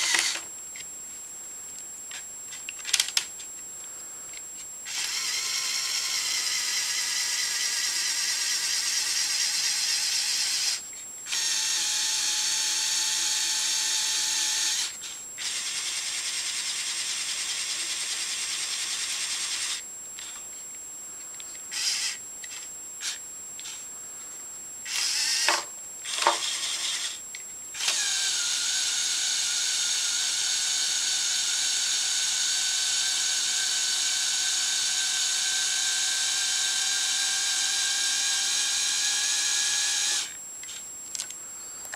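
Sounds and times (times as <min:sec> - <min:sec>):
toy excavator electric motors whining: 0:00.0 - 0:00.5, 0:04.9 - 0:20.4, 0:21.7 - 0:23.8, 0:24.8 - 0:27.2, 0:27.8 - 0:41.3.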